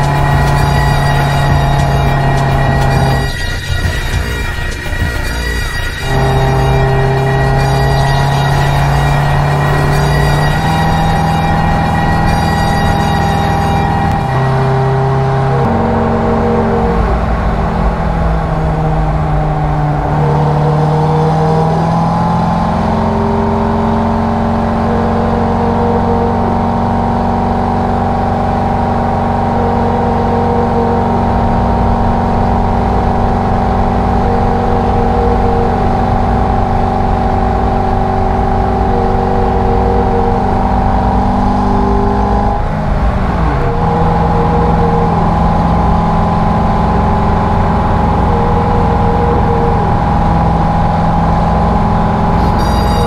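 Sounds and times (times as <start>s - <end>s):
car engine from inside cabin: 0.0s - 53.0s.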